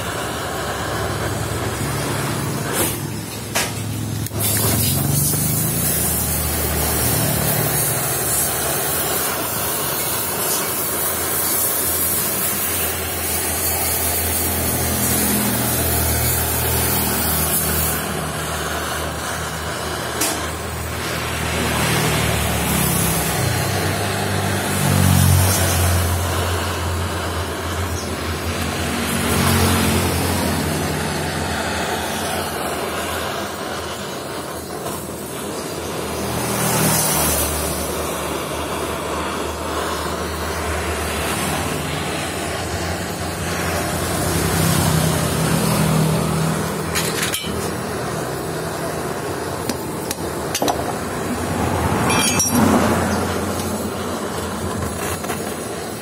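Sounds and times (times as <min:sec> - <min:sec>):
gas torch hissing: 0:00.0 - 0:56.0
passing vehicle engines: 0:00.0 - 0:56.0.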